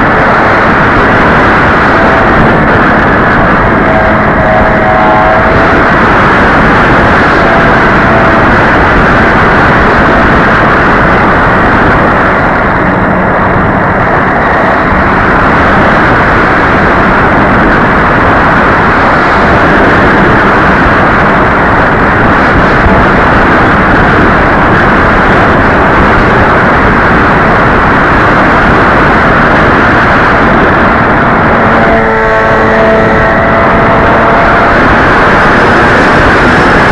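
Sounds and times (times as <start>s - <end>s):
model airplane rushing noise: 0.0s - 36.9s.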